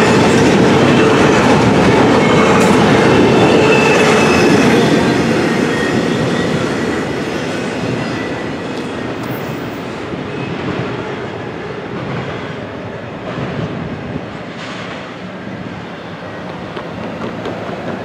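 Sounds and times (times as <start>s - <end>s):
steel train wheels on track: 0.0s - 18.0s.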